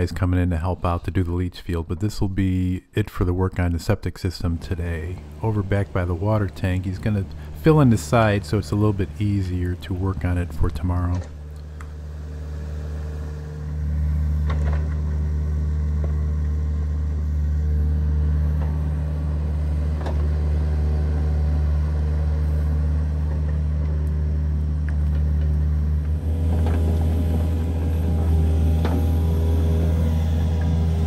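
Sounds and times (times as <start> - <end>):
excavator diesel engine running: 4.4 - 31.0.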